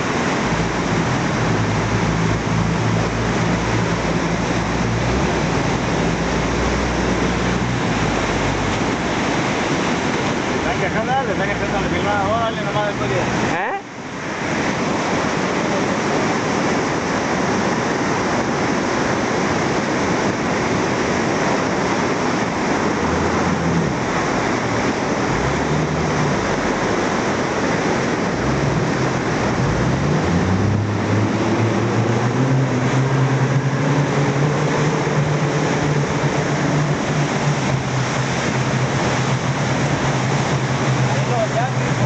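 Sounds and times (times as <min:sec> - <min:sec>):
outboard motor: 0:00.0 - 0:42.0
rushing water: 0:00.0 - 0:42.0.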